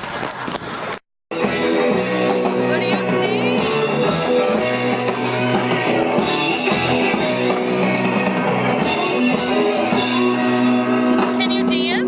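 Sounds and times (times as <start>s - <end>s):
live rock band playing: 1.3s - 12.0s.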